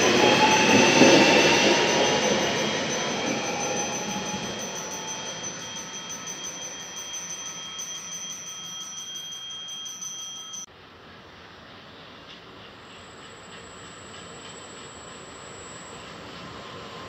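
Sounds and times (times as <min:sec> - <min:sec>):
high-pitched ringing from rails: 0:00.0 - 0:10.7, 0:12.9 - 0:17.0
electric train rumbling: 0:00.0 - 0:17.0.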